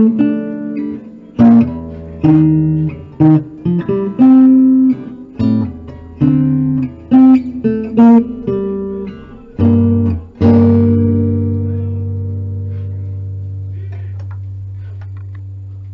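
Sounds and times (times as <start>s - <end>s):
acoustic guitar notes and chords: 0.0s - 15.9s.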